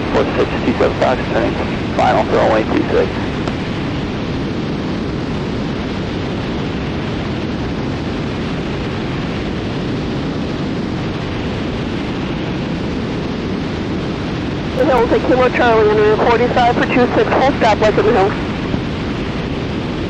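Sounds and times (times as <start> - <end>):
airplane engine in flight: 0.0 - 20.0
wind rush: 0.0 - 20.0.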